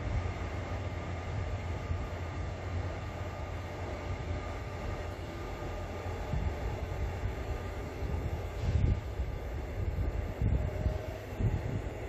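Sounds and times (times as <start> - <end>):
train rumbling along track: 0.0 - 12.0.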